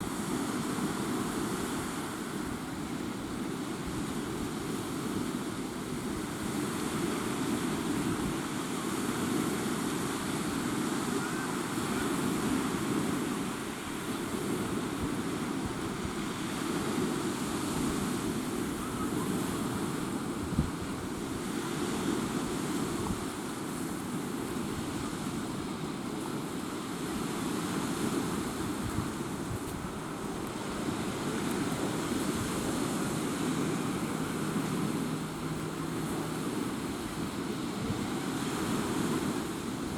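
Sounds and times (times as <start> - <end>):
sea surf: 0.0 - 39.9
wind buffeting microphone: 0.0 - 39.9.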